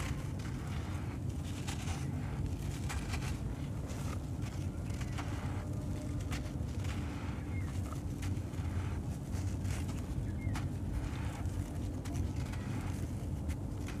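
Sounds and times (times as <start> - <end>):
sand-cement lump crunching: 0.0 - 14.0
wind rumble on microphone: 0.0 - 14.0.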